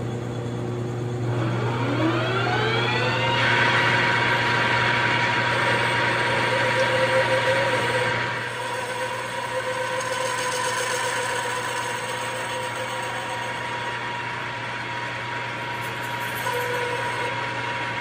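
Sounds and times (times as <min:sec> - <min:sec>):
high whine: 0:00.0 - 0:18.0
low hum: 0:00.0 - 0:18.0
metal lathe running: 0:00.0 - 0:18.0.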